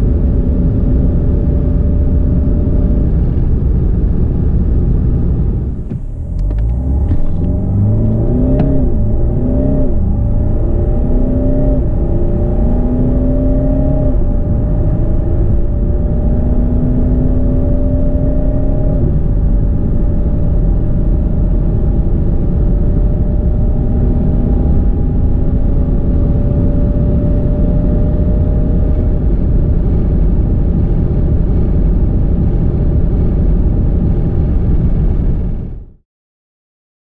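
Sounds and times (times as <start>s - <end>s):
faint whine rising in pitch: 0.0s - 34.6s
car engine rumbling at full throttle: 0.0s - 36.0s
road and wind noise: 0.0s - 36.0s.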